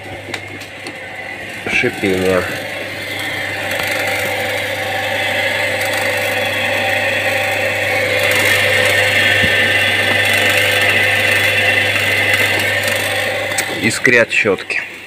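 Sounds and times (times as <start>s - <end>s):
washing machine motor humming: 0.0s - 15.0s
motor brushes sparking hiss: 0.3s - 14.5s.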